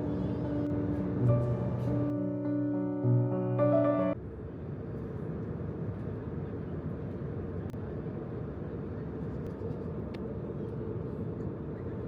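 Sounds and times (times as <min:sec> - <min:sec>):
airliner cabin engine noise: 0:00.0 - 0:03.2, 0:04.1 - 0:12.0.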